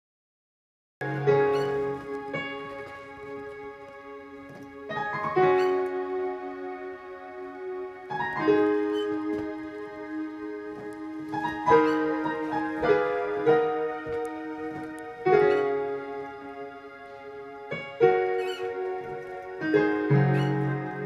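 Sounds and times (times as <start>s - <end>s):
slow piano chords: 1.0s - 21.0s.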